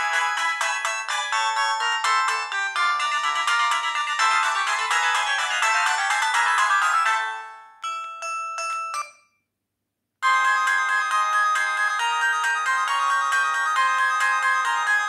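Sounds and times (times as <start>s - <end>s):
polyphonic phone ringtone: 0.0s - 9.2s, 10.2s - 15.0s.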